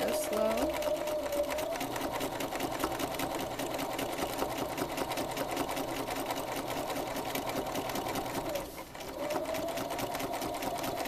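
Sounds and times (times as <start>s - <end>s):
sewing machine stitching: 0.0s - 11.0s.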